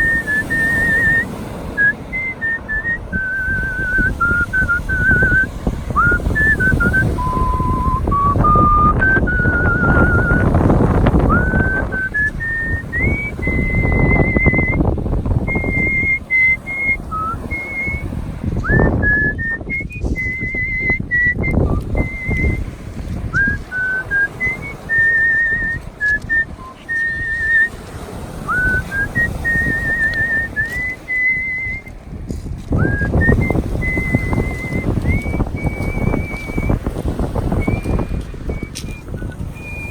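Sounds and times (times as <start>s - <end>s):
person whistling a melody: 0.0s - 22.7s, 23.3s - 27.8s, 28.4s - 32.0s, 32.7s - 39.9s
rushing background noise: 0.0s - 39.9s.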